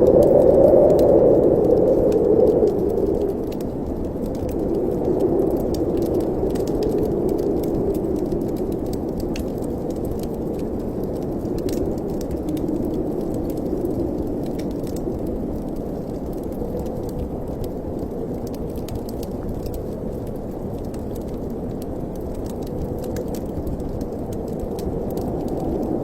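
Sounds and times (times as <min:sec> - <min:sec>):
wind blowing: 0:00.0 - 0:18.2, 0:22.8 - 0:26.0
wood fire crackling: 0:00.0 - 0:26.0.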